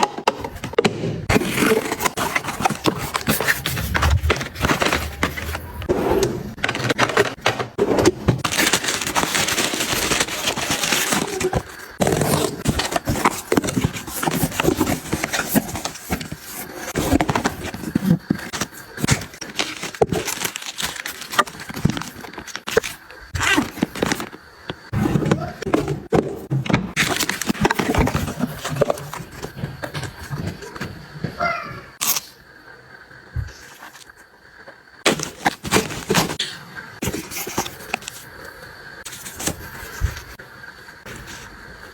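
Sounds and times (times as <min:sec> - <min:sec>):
household items clicking and scraping: 0:00.0 - 0:32.4, 0:35.0 - 0:40.4.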